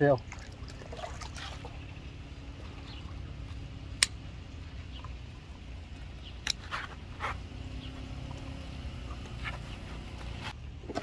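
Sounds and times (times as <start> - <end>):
low rumble with hum: 0.2 - 11.0.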